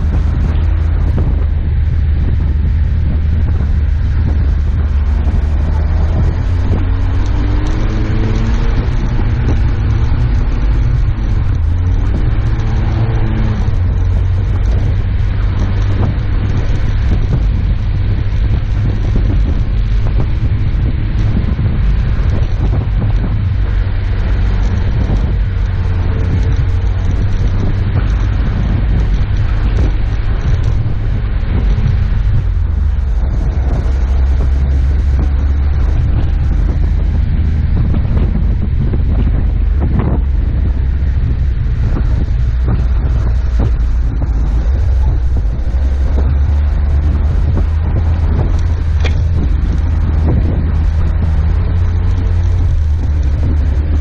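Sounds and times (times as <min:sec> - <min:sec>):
vehicle engine and tyres rumbling: 0:00.0 - 0:54.0
wind noise on camera: 0:00.0 - 0:54.0.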